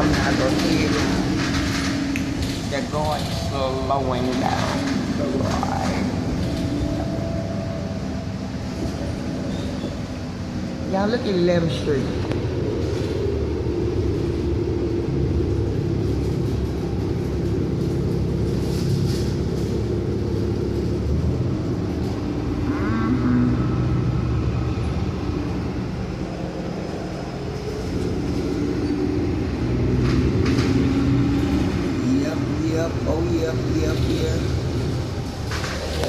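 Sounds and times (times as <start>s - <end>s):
bus engine running: 0.0s - 36.0s
road rumble: 0.0s - 36.0s.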